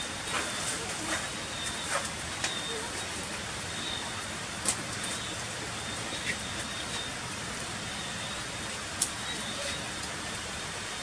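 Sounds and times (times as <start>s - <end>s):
heavy rain on stone: 0.0s - 11.0s.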